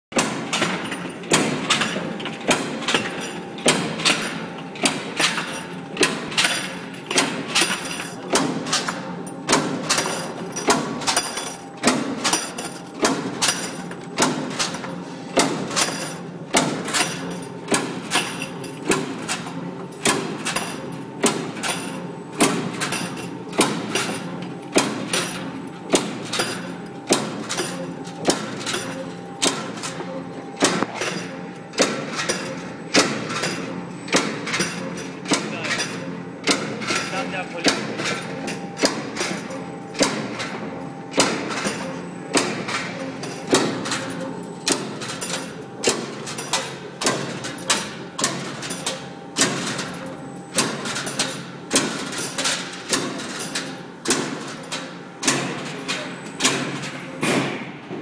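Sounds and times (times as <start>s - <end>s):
machine line humming: 0.1s - 57.6s
power press clanking: 0.2s - 57.8s.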